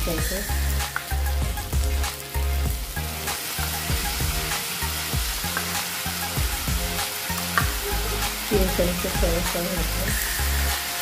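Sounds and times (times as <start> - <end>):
food sizzling in hot oil: 0.0 - 11.0
low background music: 0.0 - 11.0.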